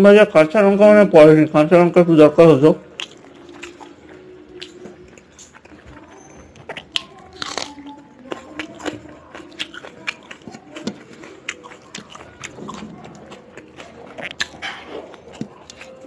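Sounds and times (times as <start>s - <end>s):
person chewing food: 2.7s - 16.0s.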